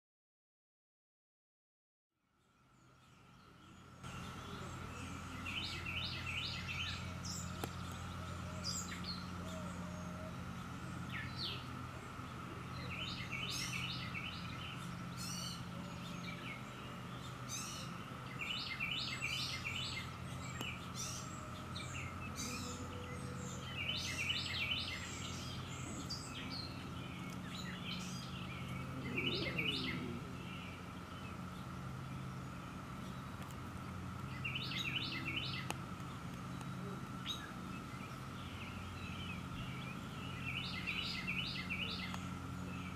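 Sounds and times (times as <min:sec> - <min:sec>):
low steady hum: 0:02.2 - 0:42.9
songbirds chirping: 0:02.2 - 0:42.9.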